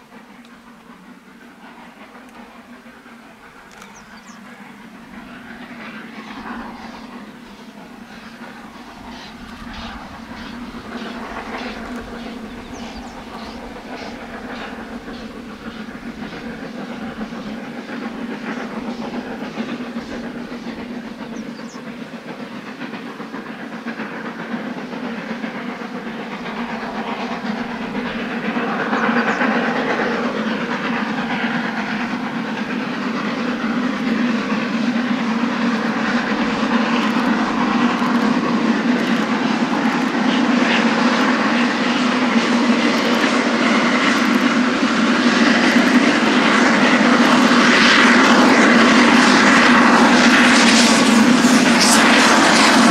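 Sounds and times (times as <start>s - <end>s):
steam locomotive exhaust: 0.0s - 52.9s.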